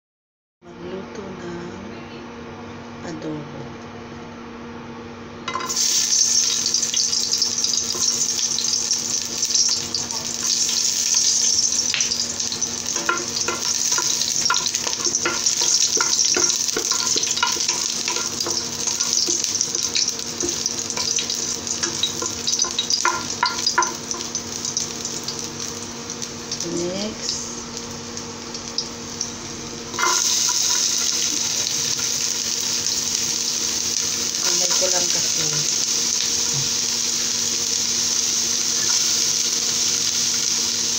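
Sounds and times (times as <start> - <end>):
garlic sizzling in hot oil: 5.5 - 40.9.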